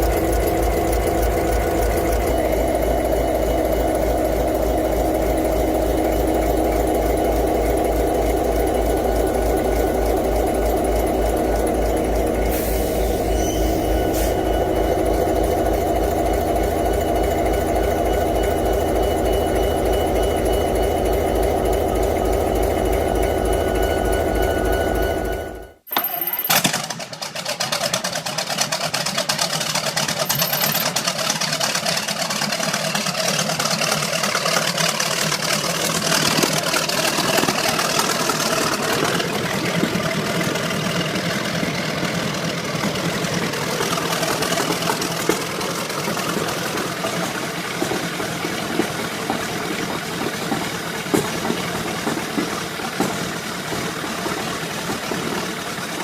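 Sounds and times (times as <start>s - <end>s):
large engine clattering: 0.0s - 25.8s, 26.6s - 56.0s.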